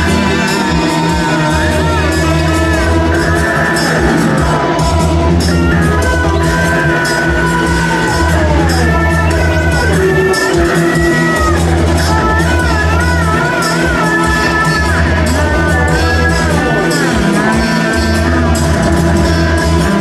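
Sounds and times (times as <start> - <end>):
rock band playing loudly: 0.0 - 20.0.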